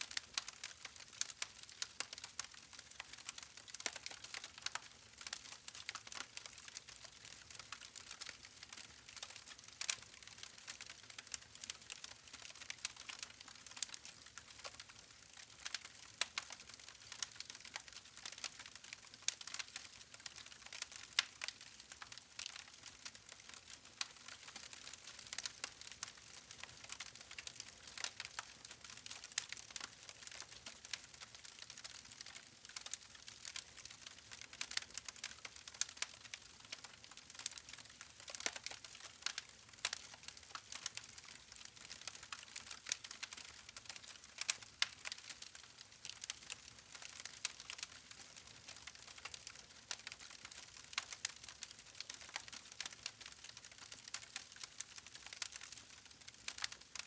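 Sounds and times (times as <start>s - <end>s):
wood fire crackling: 0.1s - 57.0s.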